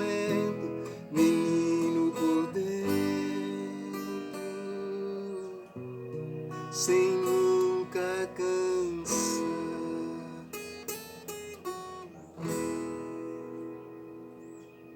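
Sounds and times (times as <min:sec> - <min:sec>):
acoustic guitar strummed chords: 0:00.0 - 0:14.9.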